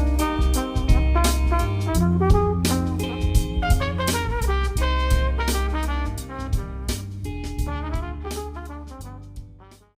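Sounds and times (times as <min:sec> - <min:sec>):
jazzy music with brass and bass: 0:00.0 - 0:10.0.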